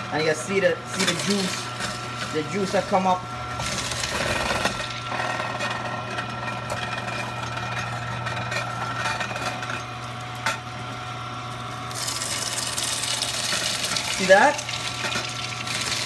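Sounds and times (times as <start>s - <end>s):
juicer motor humming: 0.0s - 16.0s.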